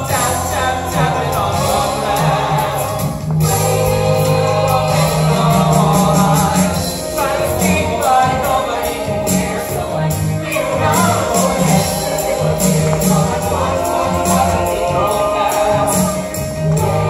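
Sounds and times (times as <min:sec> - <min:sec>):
instrumental accompaniment: 0:00.0 - 0:17.0
low bass notes: 0:00.0 - 0:17.0
voices singing: 0:00.0 - 0:17.0.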